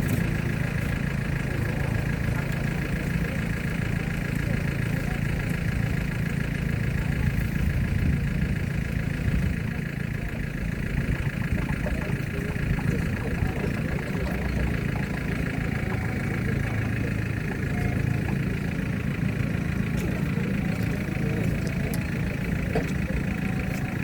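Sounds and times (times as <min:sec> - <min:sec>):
forklift hum and whine: 0:00.0 - 0:24.0.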